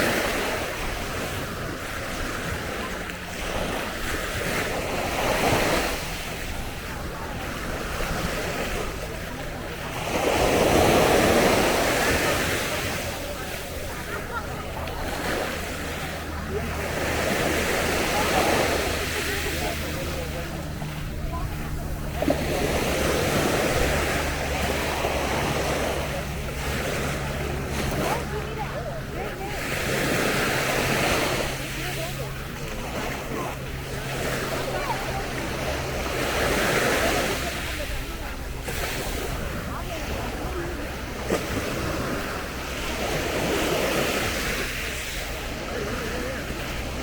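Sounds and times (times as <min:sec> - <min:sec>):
sea waves breaking on shore: 0:00.0 - 0:47.0.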